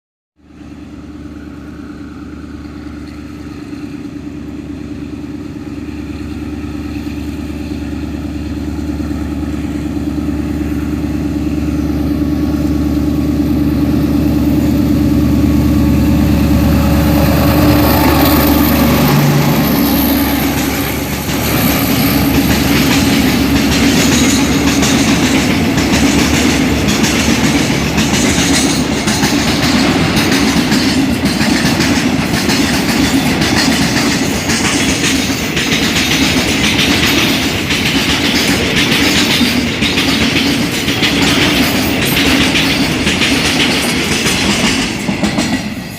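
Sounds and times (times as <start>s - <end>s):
diesel train engine: 0.4s - 45.9s
train wheels rattling over rails: 0.6s - 45.9s.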